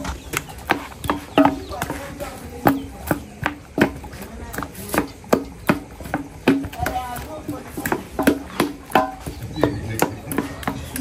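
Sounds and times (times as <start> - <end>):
rhythmic knocking: 0.0 - 11.0.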